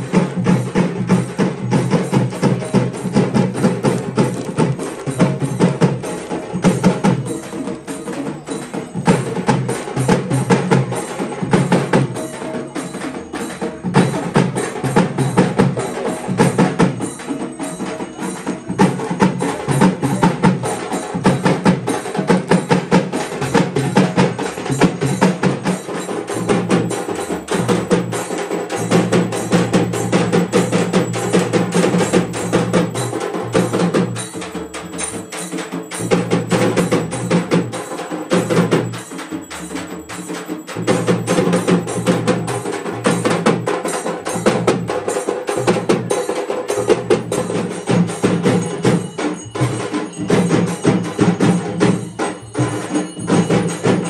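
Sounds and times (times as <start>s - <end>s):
fast dense percussion music: 0.0s - 54.0s.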